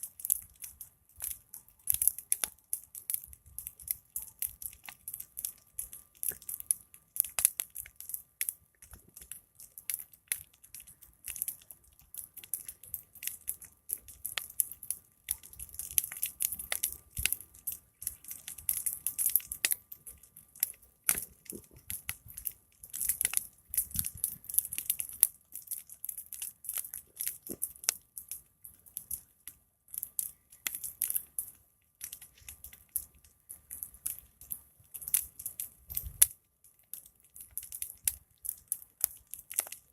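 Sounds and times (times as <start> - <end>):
open fire crackling: 0.0 - 39.9
sharp pops and snaps: 0.0 - 39.9.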